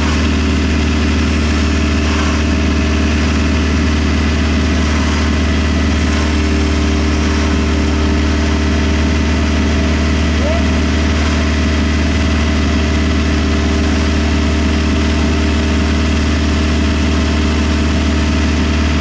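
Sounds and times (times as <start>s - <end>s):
buggy engine idling: 0.0s - 19.0s.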